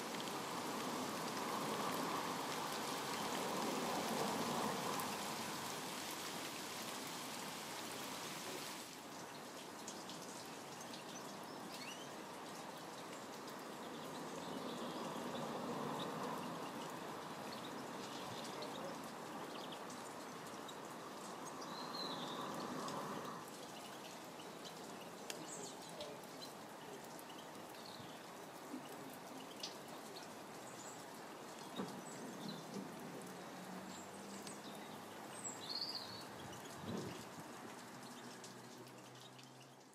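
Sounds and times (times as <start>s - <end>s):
rain hissing: 0.0s - 39.9s
water drips: 0.0s - 39.9s.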